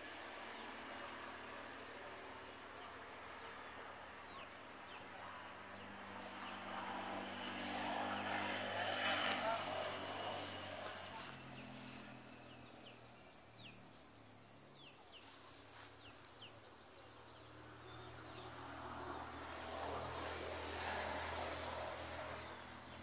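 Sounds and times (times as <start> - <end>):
high insect buzz: 0.1 - 23.0.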